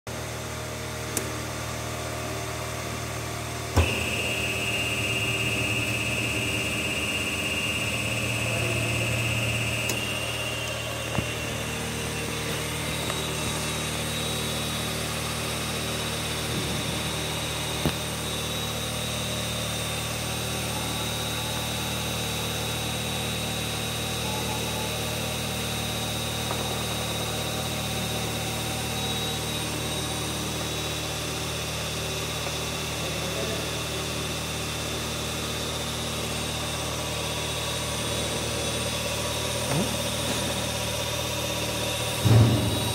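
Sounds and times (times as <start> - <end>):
hydraulic motor and pump humming: 0.1 - 42.9
high whine: 2.2 - 42.9.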